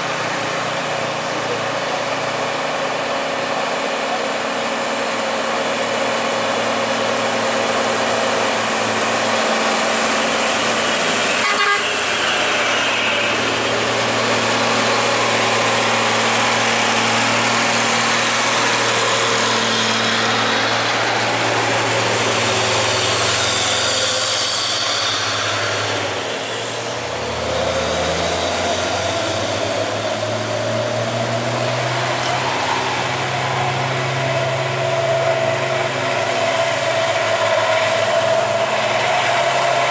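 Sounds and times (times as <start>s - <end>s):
diesel truck engines droning: 0.0s - 39.9s
tyres hissing on wet road: 0.0s - 39.9s.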